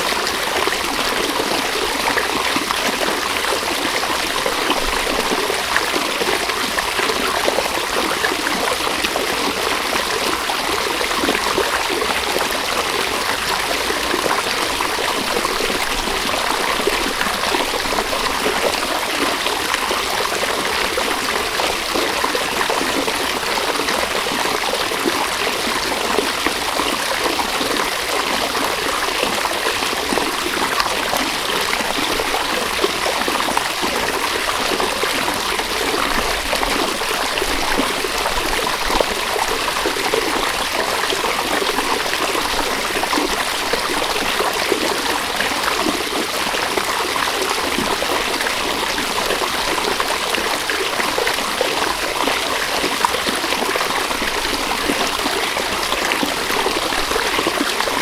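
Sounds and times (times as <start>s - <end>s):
river babbling over stones: 0.0s - 58.0s.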